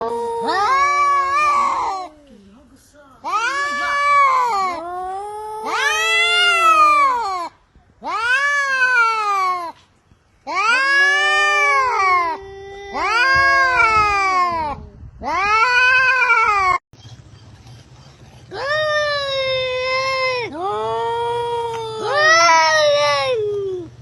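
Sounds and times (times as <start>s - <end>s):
cat yowling meows: 0.0s - 2.2s, 3.2s - 9.8s, 10.5s - 16.8s, 18.5s - 23.9s.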